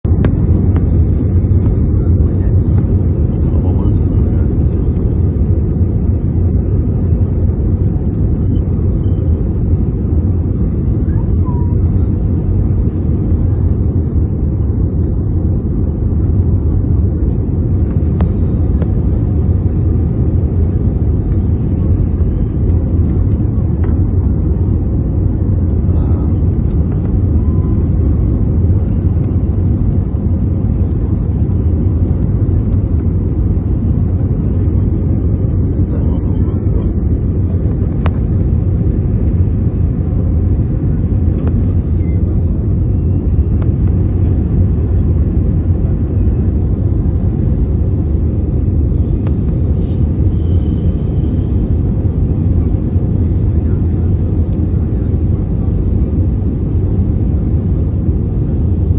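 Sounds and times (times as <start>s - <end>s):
jet engine and airflow rumble: 0.0s - 58.9s.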